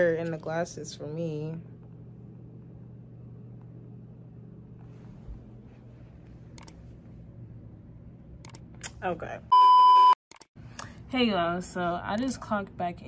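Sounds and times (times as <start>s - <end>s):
low electrical hum: 0.0s - 10.0s, 10.6s - 13.0s.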